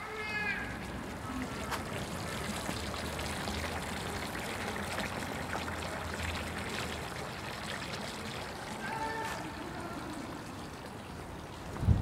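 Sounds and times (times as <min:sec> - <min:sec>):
water running and trickling: 0:00.1 - 0:12.0.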